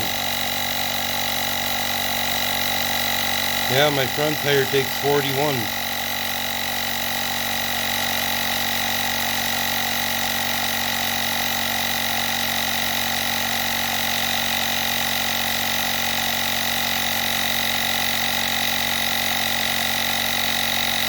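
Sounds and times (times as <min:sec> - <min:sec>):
electric tire inflator whining: 0:00.0 - 0:21.0.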